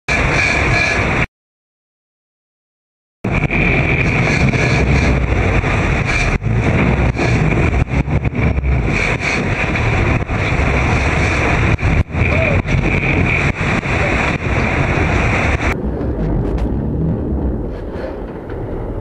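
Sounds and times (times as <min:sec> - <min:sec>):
wind buffeting microphone: 0:03.2 - 0:19.0
boat engines running: 0:03.3 - 0:19.0.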